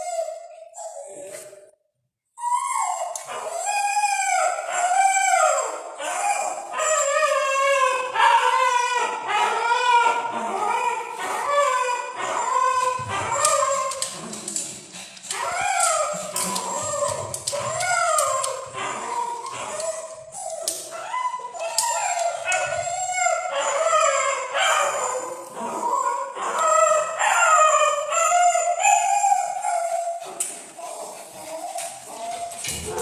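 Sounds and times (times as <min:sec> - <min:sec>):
puppy whining and yelping: 0:00.0 - 0:01.7, 0:02.4 - 0:33.0.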